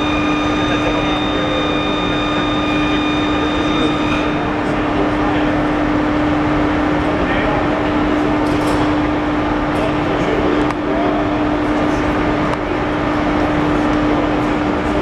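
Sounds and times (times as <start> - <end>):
machinery droning: 0.0 - 15.0.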